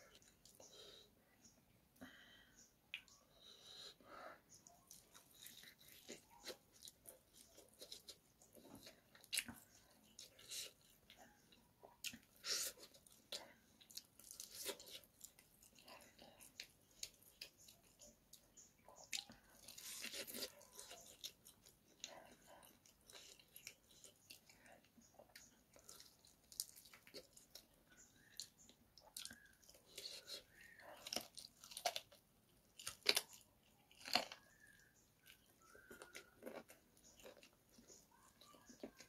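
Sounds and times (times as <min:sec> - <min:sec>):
man chewing food: 0:00.0 - 0:39.0.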